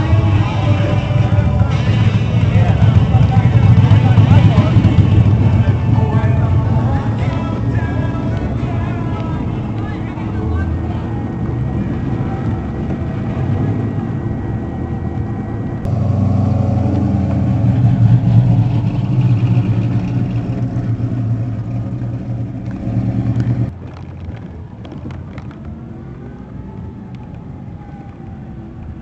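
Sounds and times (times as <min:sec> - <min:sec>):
car engine: 0:00.0 - 0:29.0
road noise: 0:00.0 - 0:29.0.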